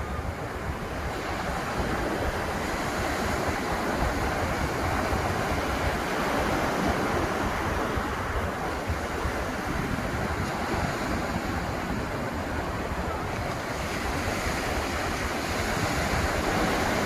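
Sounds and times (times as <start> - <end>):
waves breaking on beach: 0.0 - 17.0
wind rumble on microphone: 0.0 - 17.0.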